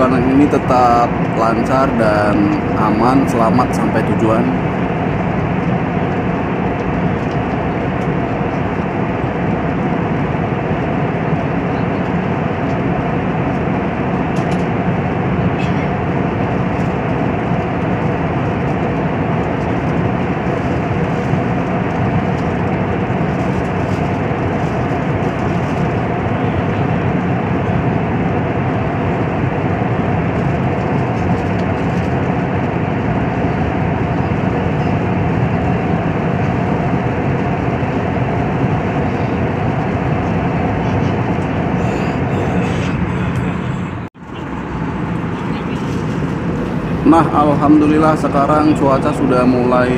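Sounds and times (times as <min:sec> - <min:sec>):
airliner cabin airflow rush: 0:00.0 - 0:49.9
jet engines humming: 0:00.0 - 0:49.9.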